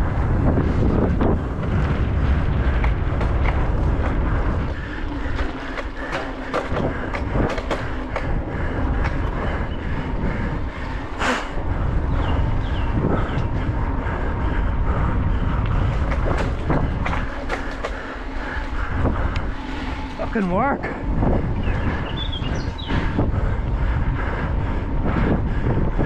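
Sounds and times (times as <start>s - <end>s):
mountain bike rattling over trail: 0.0s - 13.9s, 15.4s - 23.5s
wind on microphone: 0.0s - 26.0s.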